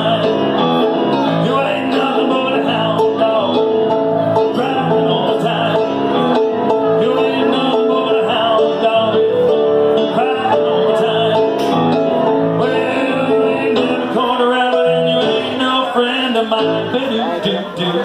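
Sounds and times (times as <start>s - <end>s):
man singing into a microphone: 0.0s - 18.0s
piano playing: 0.0s - 18.0s.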